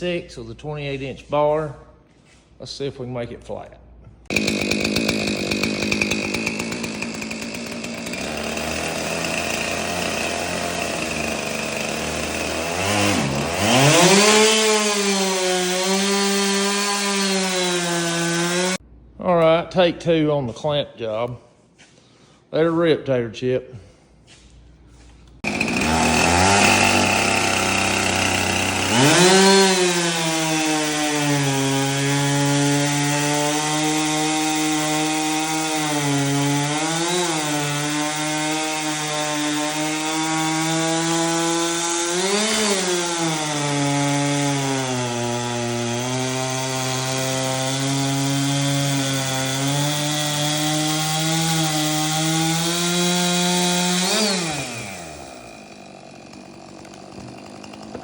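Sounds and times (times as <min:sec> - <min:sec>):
chainsaw cutting wood: 0:04.2 - 0:18.8, 0:25.3 - 0:58.0.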